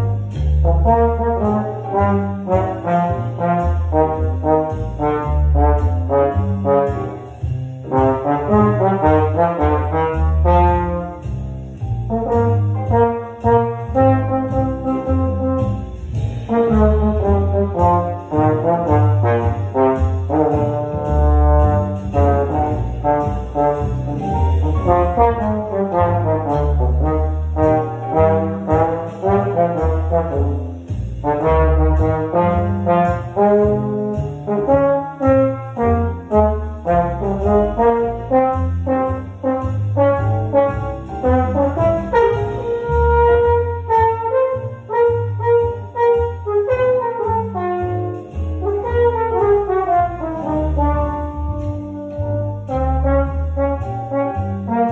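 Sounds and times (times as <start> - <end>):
deep bass line: 0.0 - 54.9
trombone solo: 0.0 - 54.9.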